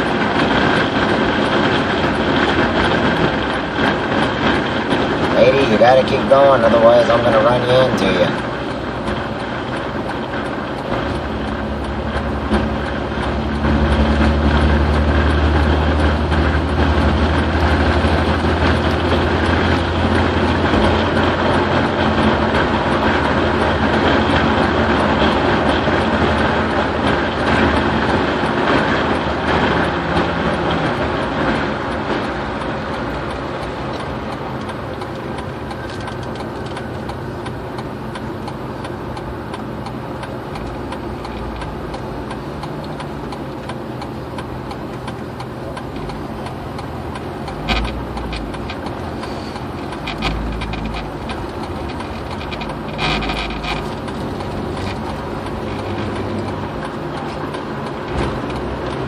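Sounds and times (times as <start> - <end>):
car road noise on highway: 0.0 - 59.0.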